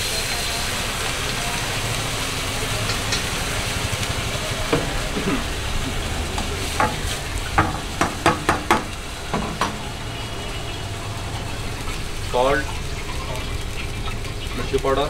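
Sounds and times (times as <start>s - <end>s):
gas burner hissing: 0.0s - 15.0s
water sizzling in hot wok: 0.0s - 15.0s.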